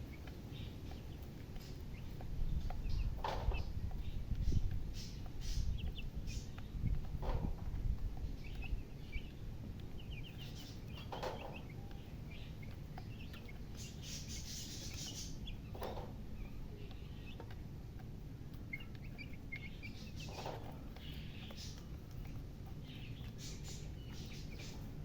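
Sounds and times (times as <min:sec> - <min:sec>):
chicks peeping: 0:00.0 - 0:25.0
steady low rumble: 0:00.0 - 0:25.0.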